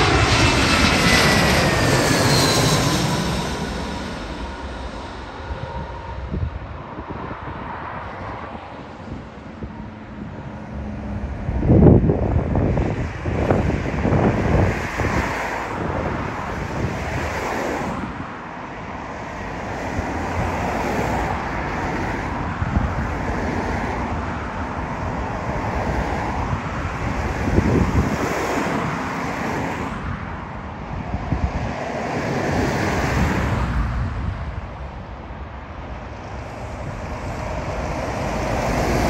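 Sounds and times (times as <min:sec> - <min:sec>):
wind buffeting microphone: 0:00.0 - 0:18.5, 0:19.2 - 0:39.0
distant jet engines rumbling: 0:00.0 - 0:18.6, 0:19.2 - 0:39.0.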